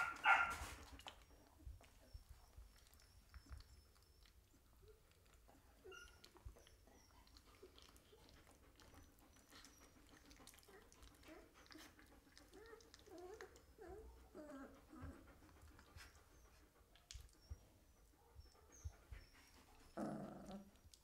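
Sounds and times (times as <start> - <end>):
puppies mouthing wet clicks: 0.0 - 21.0
puppies grunting and whining: 2.0 - 21.0.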